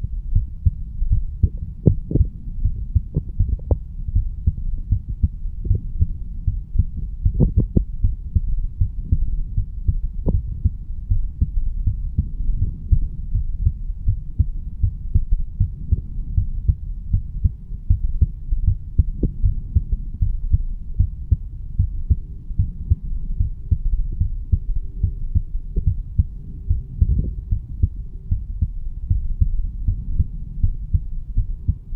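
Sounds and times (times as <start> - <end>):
heartbeat low thumps: 0.0 - 31.9.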